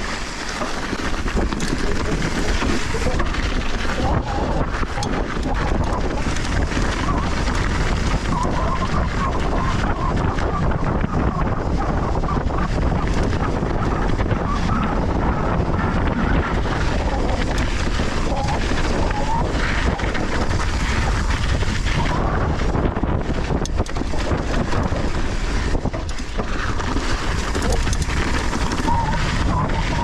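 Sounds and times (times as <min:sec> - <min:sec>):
bike clicks and rattles: 0:00.0 - 0:30.0
bike tyres rumbling on dirt: 0:00.0 - 0:30.0
wind rushing over microphone: 0:00.0 - 0:30.0.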